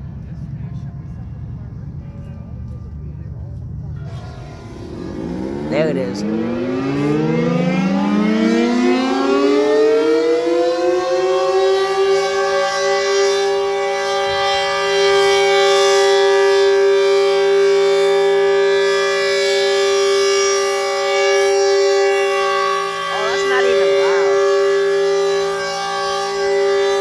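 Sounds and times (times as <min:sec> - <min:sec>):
warning siren wailing: 0:04.1 - 0:27.0.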